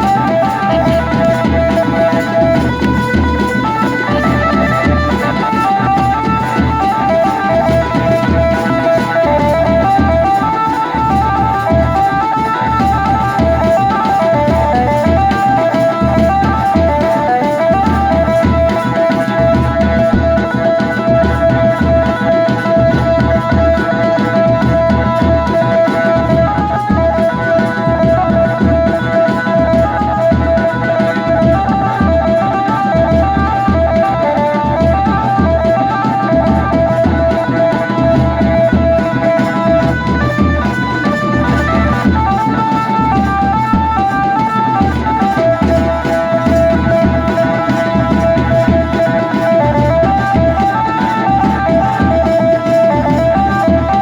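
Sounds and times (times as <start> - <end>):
high lead instrument melody: 0.0 - 54.0
steady drum beat: 0.0 - 54.0.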